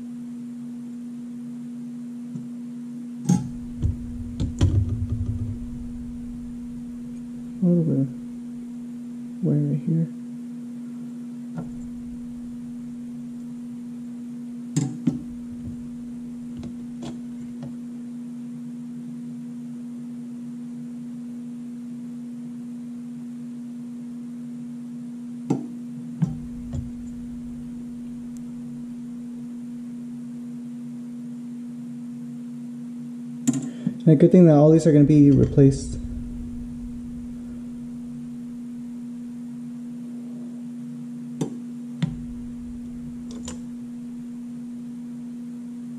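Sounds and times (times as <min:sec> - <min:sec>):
steady electrical hum: 0:00.0 - 0:45.9.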